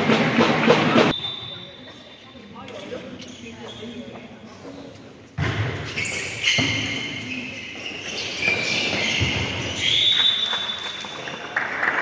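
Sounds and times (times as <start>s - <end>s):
shoes squeaking on court floor: 1.0s - 11.4s.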